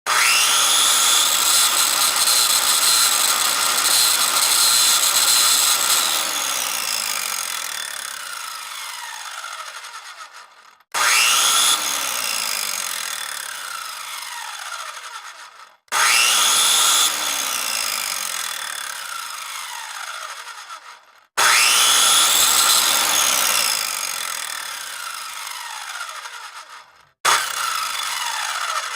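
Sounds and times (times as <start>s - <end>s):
power saw whining: 0.1s - 28.9s.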